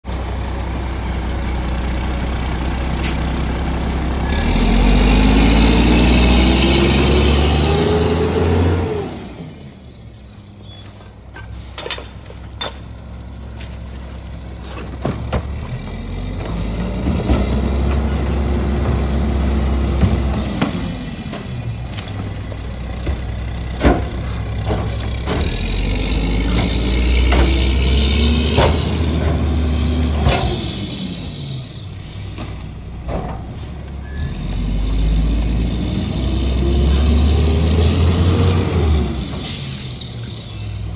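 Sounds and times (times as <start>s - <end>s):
garbage truck engine revving: 1.2s - 11.8s, 12.8s - 40.9s.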